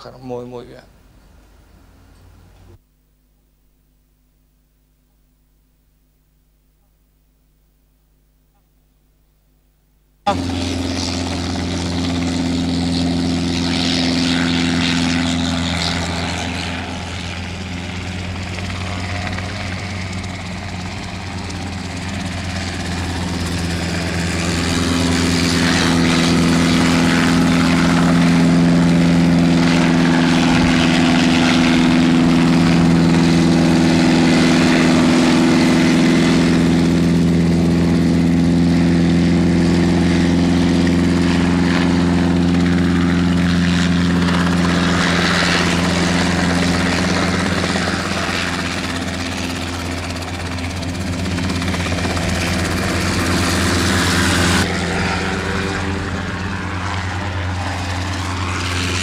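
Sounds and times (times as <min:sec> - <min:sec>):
helicopter engine and rotor drone: 0:10.3 - 0:59.0.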